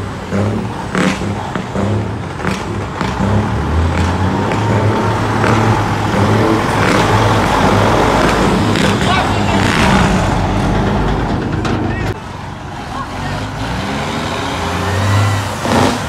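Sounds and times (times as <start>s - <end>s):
heavy trucks driving past: 0.0s - 16.0s.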